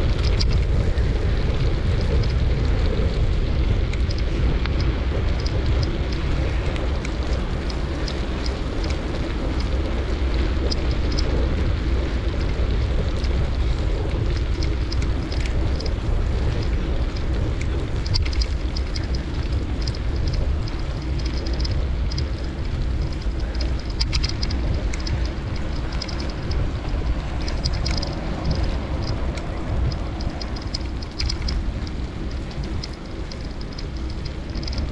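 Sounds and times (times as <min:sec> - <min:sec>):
light ticks: 0:00.0 - 0:34.9
wind buffeting microphone: 0:00.0 - 0:34.9.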